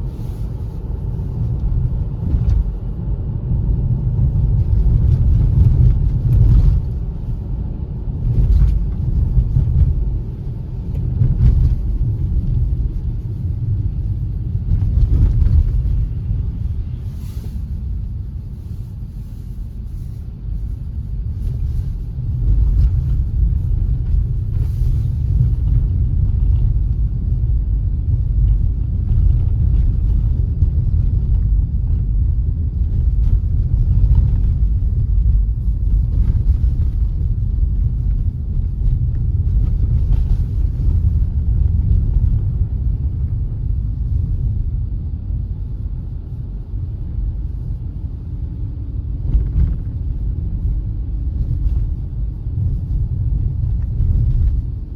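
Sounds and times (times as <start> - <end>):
car road and engine noise: 0.0 - 54.9.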